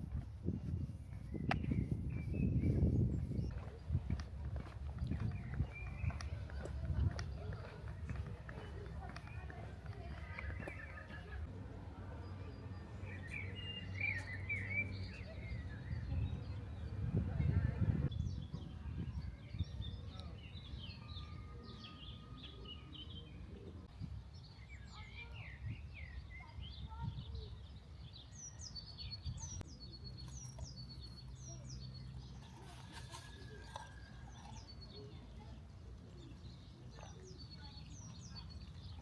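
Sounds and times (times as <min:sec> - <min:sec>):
songbirds chirping and singing: 0:00.0 - 0:39.0.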